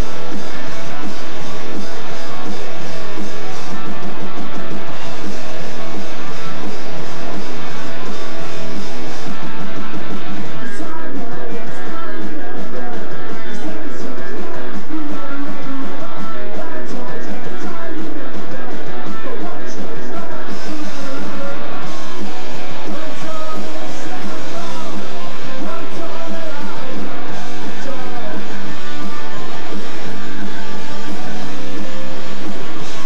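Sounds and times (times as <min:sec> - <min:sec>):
punk rock band playing live: 0:00.0 - 0:33.0.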